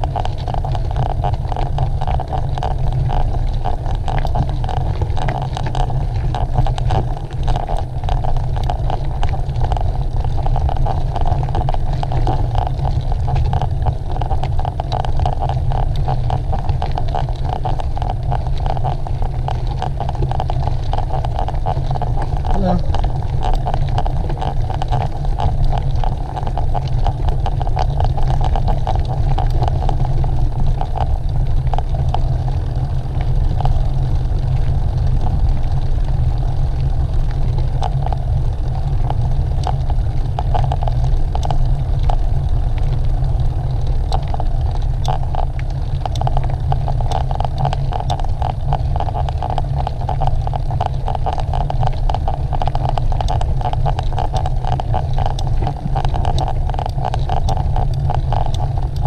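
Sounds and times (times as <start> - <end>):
rumble and tyre noise: 0.0 - 59.0
small clicks and rattles: 0.0 - 59.0.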